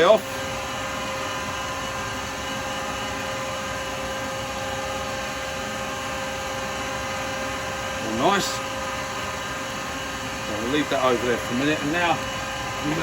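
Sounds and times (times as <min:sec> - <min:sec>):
wood lathe humming and whining: 0:00.0 - 0:13.0.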